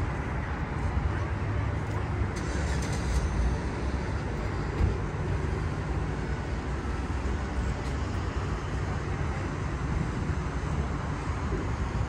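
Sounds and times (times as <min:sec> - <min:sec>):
low road traffic rumble: 0:00.0 - 0:12.0.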